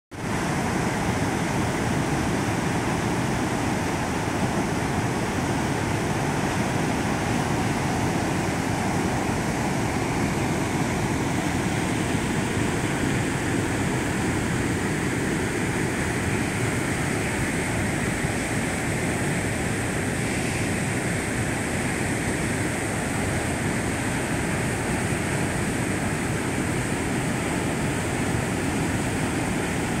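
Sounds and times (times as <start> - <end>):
water rushing down spillway: 0.2 - 30.0.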